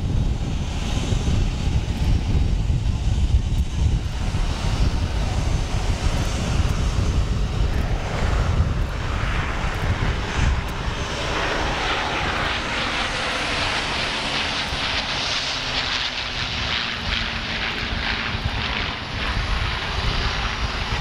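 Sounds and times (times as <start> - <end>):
propeller plane engines flying past: 0.0 - 21.0.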